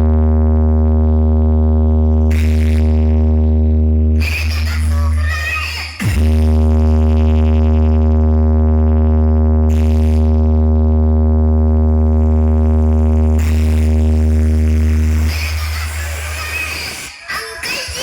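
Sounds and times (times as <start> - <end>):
heavy steady bass: 0.0 - 18.0.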